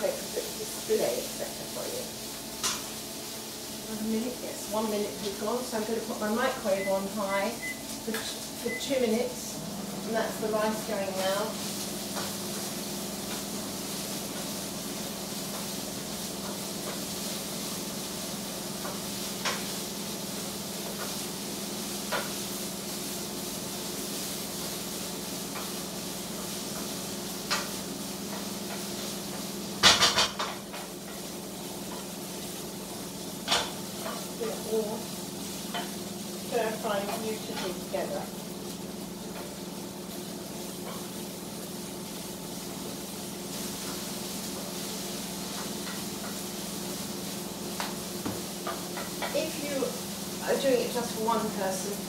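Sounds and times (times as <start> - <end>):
food sizzling in a frying pan: 0.0 - 52.0.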